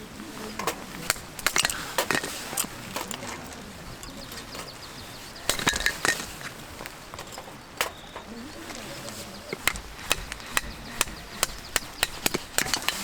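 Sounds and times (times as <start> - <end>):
objects clicking and knocking: 0.6 - 4.7, 5.4 - 13.0.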